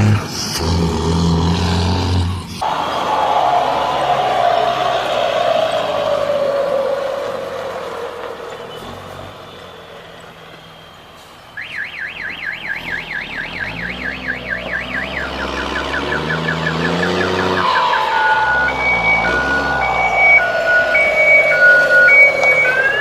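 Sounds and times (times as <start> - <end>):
truck engine rising in pitch: 0.0 - 23.0
truck passing: 0.0 - 23.0
warbling siren-like horn: 2.6 - 10.0, 11.6 - 23.0.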